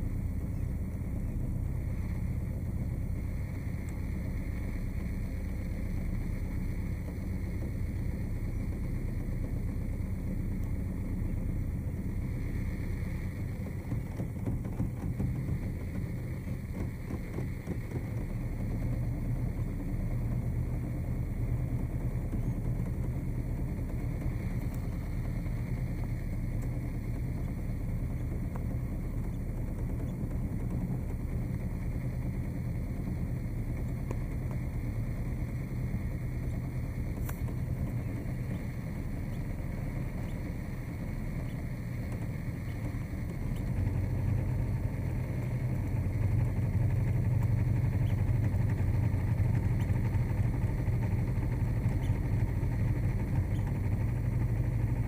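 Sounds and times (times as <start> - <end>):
motorboat engine humming: 0.0 - 55.0.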